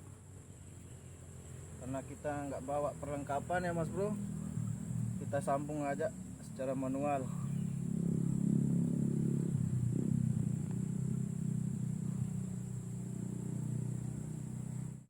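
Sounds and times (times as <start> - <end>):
engine droning hum: 0.0 - 15.0.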